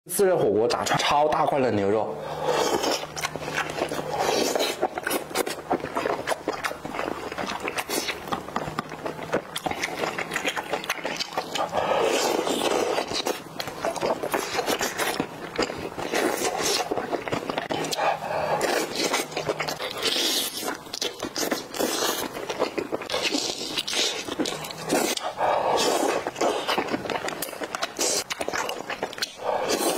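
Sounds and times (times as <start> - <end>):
slurping noodles: 2.2 - 8.2, 9.8 - 15.2, 16.0 - 29.9
wet chewing: 2.2 - 29.9.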